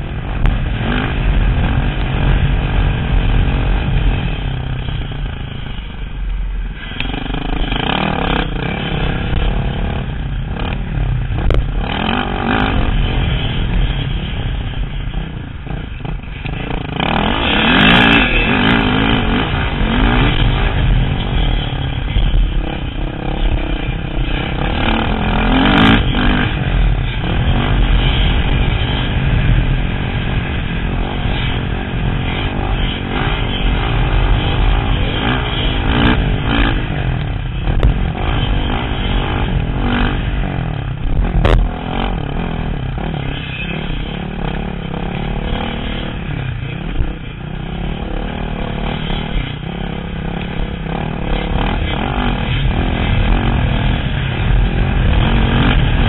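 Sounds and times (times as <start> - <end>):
dirt bike engine revving: 6.8 - 56.0.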